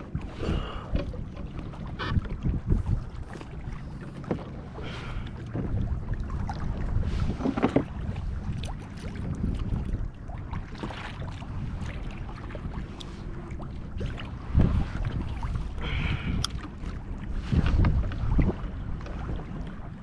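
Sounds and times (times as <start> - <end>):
water lapping against kayak hull: 0.0 - 20.0
wind buffeting microphone: 0.0 - 20.0.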